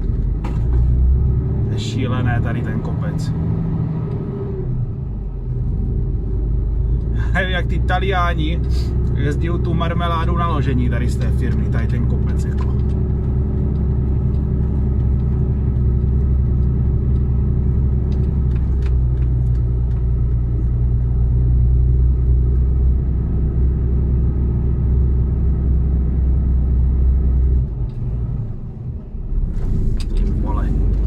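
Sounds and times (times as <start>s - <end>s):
truck diesel engine droning uphill: 0.0s - 31.0s.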